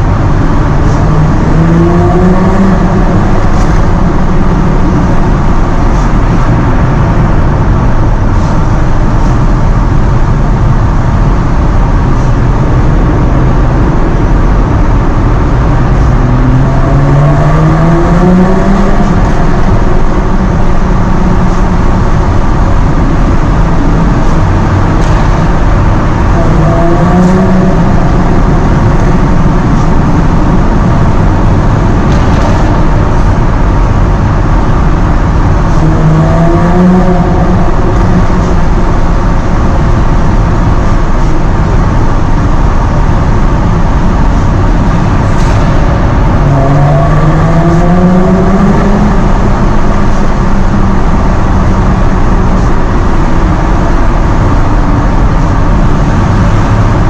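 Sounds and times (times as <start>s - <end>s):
car engine and exhaust: 0.0s - 57.0s
road and wind noise: 0.0s - 57.0s.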